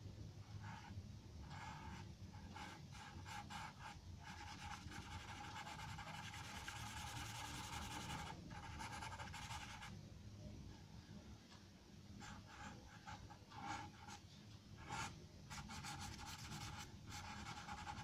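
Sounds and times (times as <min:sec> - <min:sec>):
charcoal pencil scratching on paper: 0:00.6 - 0:09.9, 0:12.2 - 0:14.2, 0:14.8 - 0:18.0.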